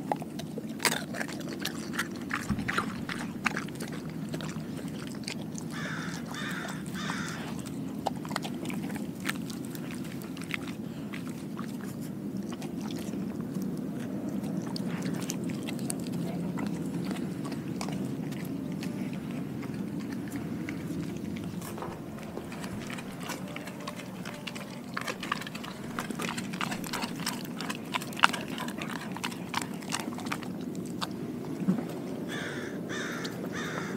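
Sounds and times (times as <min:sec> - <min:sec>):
dog licking and chewing: 0:00.0 - 0:33.9
steady low hum: 0:00.0 - 0:33.9.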